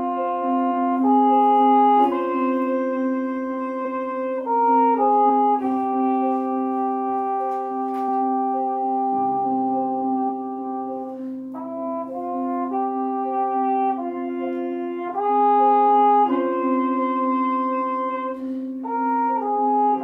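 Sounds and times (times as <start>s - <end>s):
steady low accompanying note: 0.0s - 20.0s
trumpet playing slow melody: 0.0s - 20.0s.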